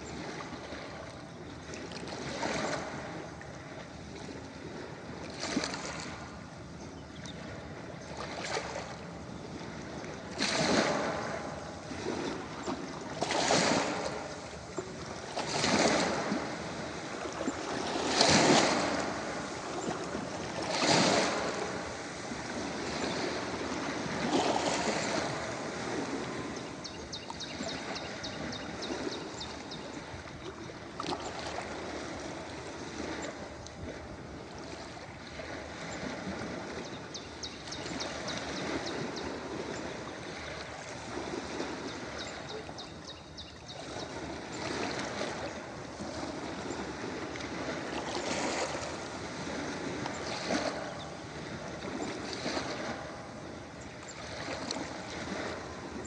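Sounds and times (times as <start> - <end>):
small waves breaking: 0.0 - 56.0.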